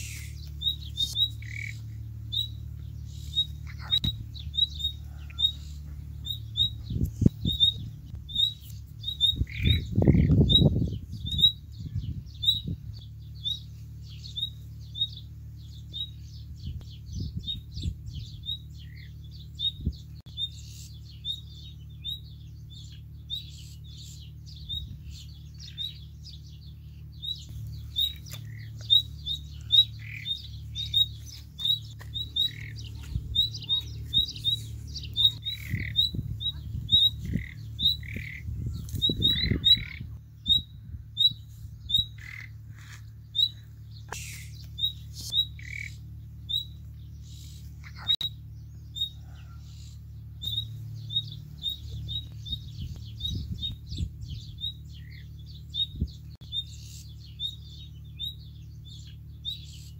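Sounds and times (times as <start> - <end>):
birds high chirps: 0.0 - 59.9
low steady hum: 0.0 - 59.9
lower bird calls: 0.0 - 59.9.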